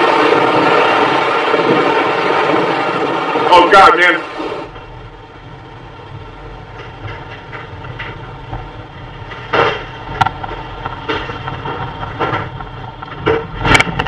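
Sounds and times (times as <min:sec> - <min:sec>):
debris banging: 0:00.0 - 0:05.4, 0:06.1 - 0:14.0
tornado wind roaring: 0:00.0 - 0:14.0.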